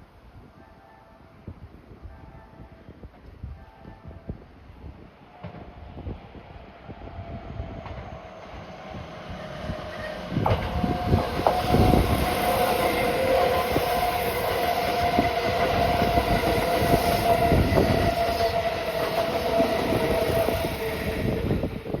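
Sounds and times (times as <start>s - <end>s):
steady high tone of train: 0.0s - 22.0s.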